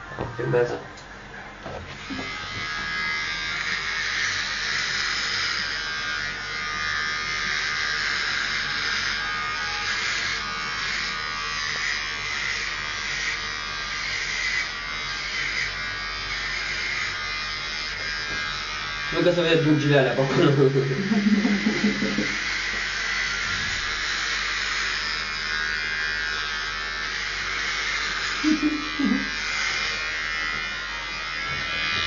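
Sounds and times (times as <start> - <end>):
electric hair clippers buzzing: 0.0 - 32.0.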